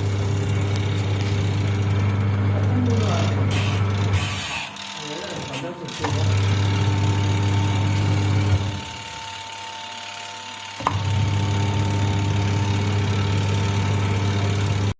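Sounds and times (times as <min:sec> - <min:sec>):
washing machine motor humming: 0:00.0 - 0:14.9.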